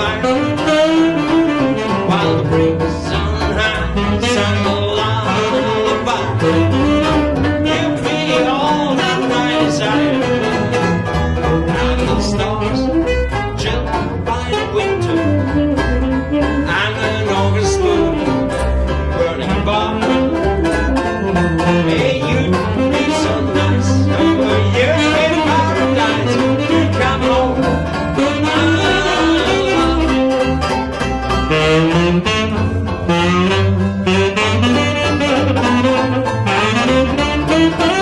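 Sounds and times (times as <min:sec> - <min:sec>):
banjo chord strumming: 0:00.0 - 0:38.0
double bass: 0:00.0 - 0:38.0
saxophone melody: 0:00.0 - 0:38.0.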